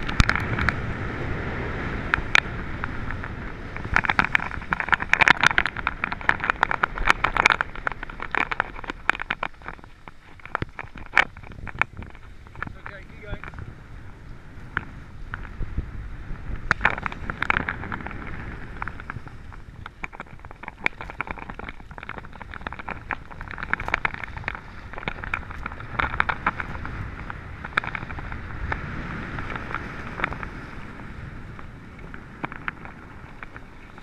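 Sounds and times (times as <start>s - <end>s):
skis scraping on packed snow: 0.0s - 34.0s
wind on microphone: 0.0s - 34.0s.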